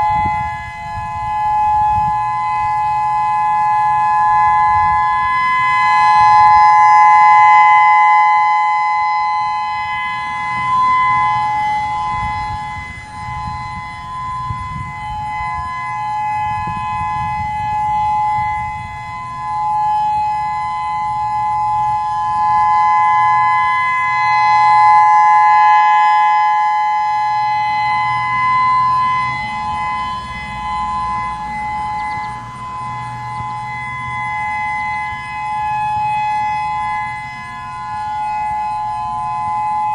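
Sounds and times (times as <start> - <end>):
two-note warning siren: 0.0 - 39.9.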